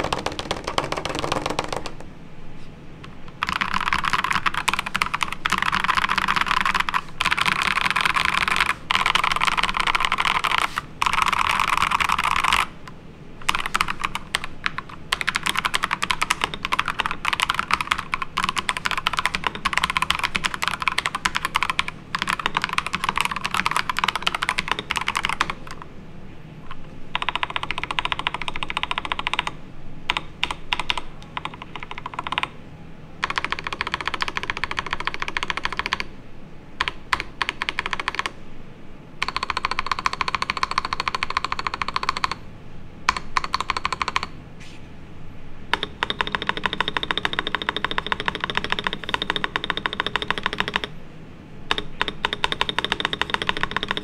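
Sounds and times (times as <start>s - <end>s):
mechanical keyboard typing: 0.0s - 2.1s, 3.3s - 12.8s, 13.4s - 25.9s, 26.7s - 32.6s, 33.2s - 36.1s, 36.8s - 38.4s, 39.2s - 42.4s, 43.1s - 44.4s, 45.7s - 50.9s, 51.7s - 54.0s.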